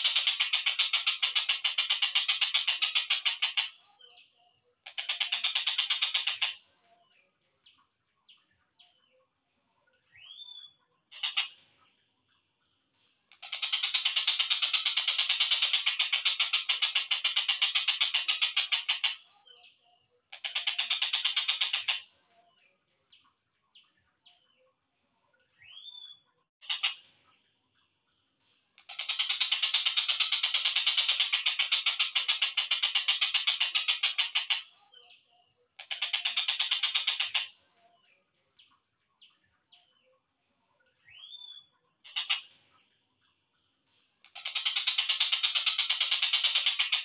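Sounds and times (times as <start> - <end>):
faint bird chirps: 0.0 - 47.0.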